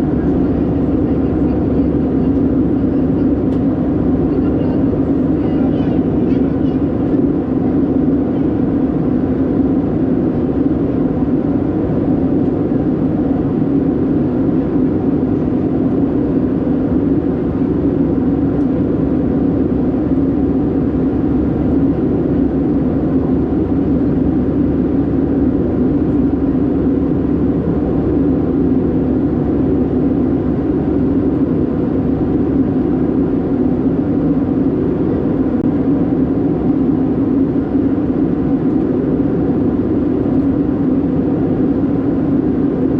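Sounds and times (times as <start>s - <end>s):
aircraft cabin engine drone: 0.0s - 42.9s.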